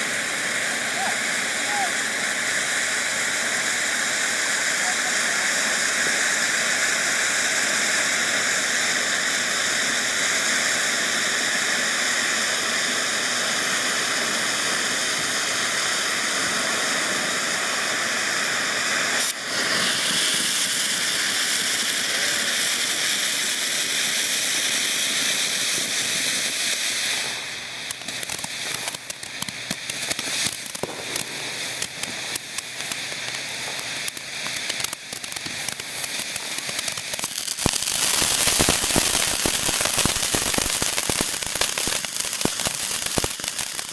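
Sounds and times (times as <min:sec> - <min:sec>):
fireworks crackling: 0:00.0 - 0:43.9
fireworks hissing: 0:00.0 - 0:43.9.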